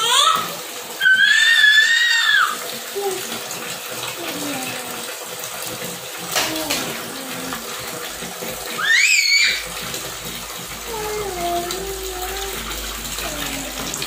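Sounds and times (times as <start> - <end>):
tap water pouring into basin: 0.0 - 14.0.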